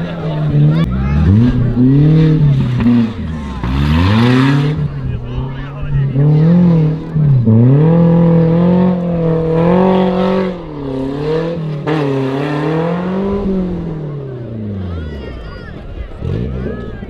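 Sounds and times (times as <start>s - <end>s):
engine revving hard: 0.0s - 14.8s, 16.1s - 17.0s.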